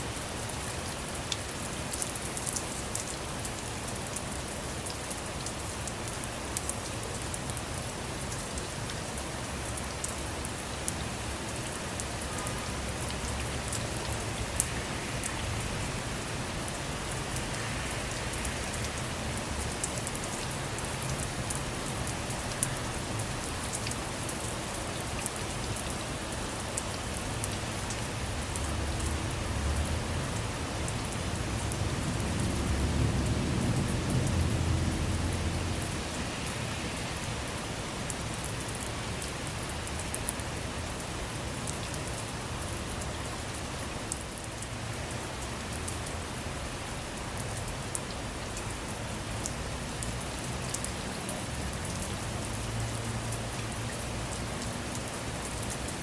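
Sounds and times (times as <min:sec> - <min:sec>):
rain on car roof: 0:00.1 - 0:56.0.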